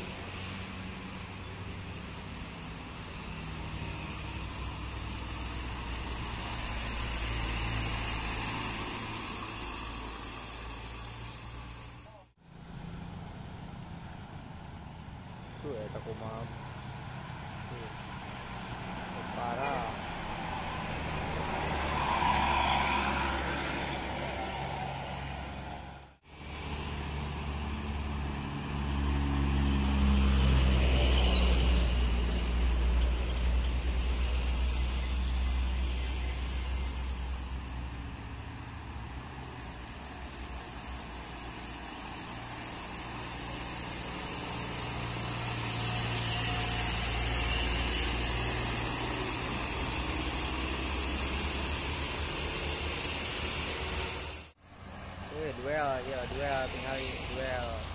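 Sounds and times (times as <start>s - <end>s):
buses and trucks passing: 0.0s - 57.9s
steady high whine: 0.0s - 57.9s.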